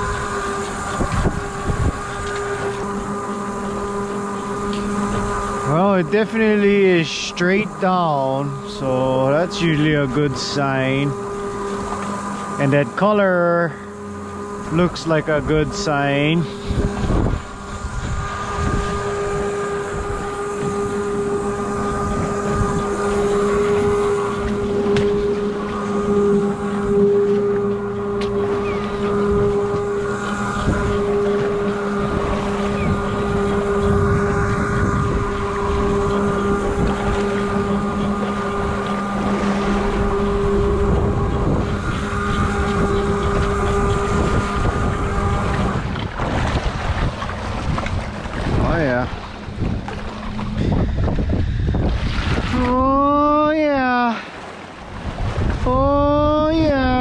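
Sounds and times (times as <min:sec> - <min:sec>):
wind noise on microphone: 0:00.0 - 0:54.1, 0:54.8 - 0:57.0
boat engine idling: 0:00.0 - 0:57.0
outboard motors humming: 0:00.0 - 0:57.0
water rushing past hull: 0:00.0 - 0:57.0.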